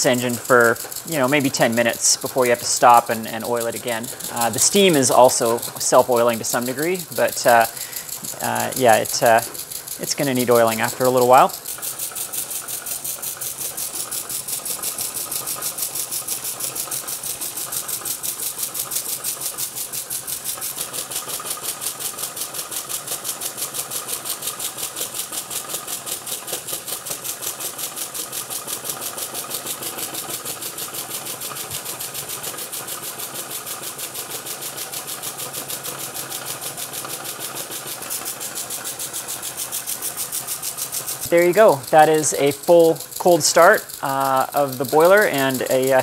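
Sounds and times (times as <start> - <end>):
model steam engine chuffing: 0.0 - 46.0
steam hissing: 0.0 - 46.0.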